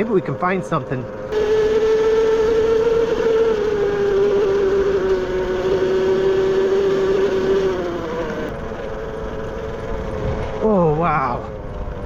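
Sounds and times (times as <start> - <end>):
electric motorbike motor whining: 0.0 - 12.0.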